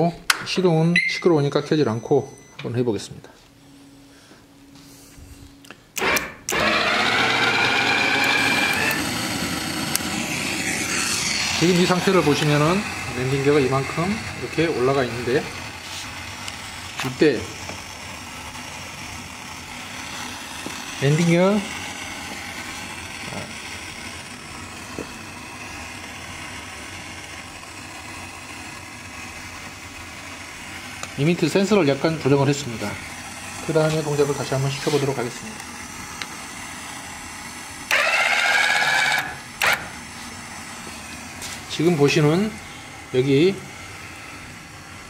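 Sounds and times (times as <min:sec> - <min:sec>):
steady mechanical hum: 0:00.0 - 0:45.0
electric motor whining: 0:06.0 - 0:45.0.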